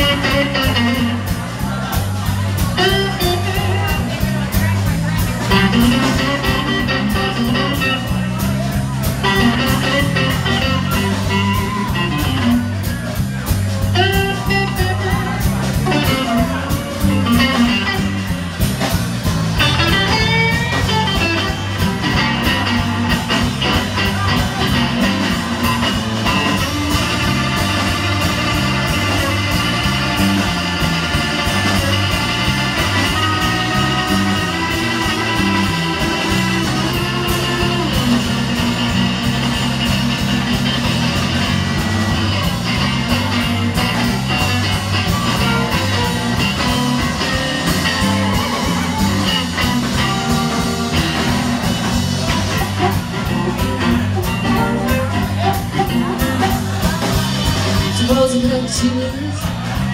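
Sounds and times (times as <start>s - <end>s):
bass line: 0.0s - 59.9s
blues band playing: 0.0s - 59.9s.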